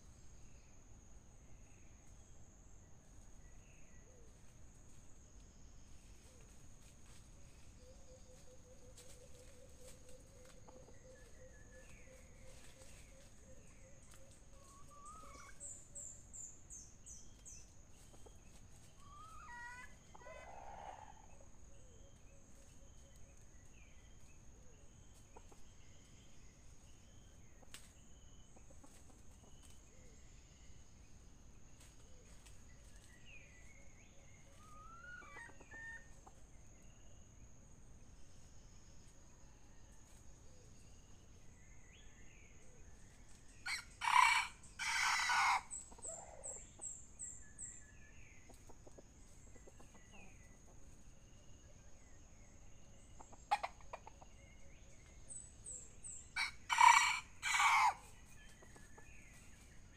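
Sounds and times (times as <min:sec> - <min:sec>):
small birds chirping: 0:01.4 - 0:39.1, 0:40.3 - 0:59.9.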